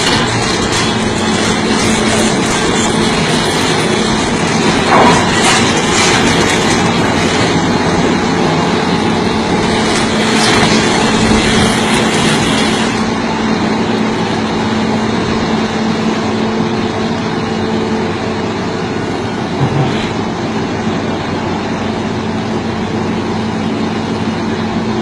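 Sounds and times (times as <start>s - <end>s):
diesel machinery running: 0.0s - 25.0s.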